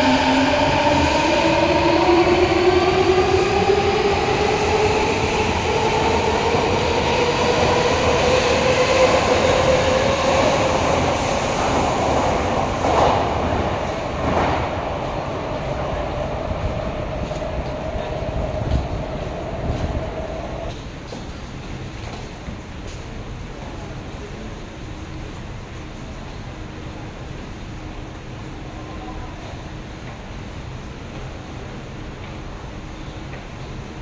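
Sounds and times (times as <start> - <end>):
train wheel rumble: 0.0 - 34.0.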